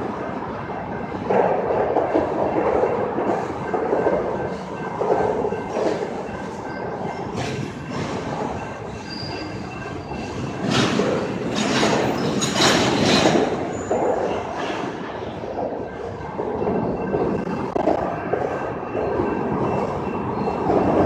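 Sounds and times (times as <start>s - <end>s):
train running on rails: 0.0s - 21.0s.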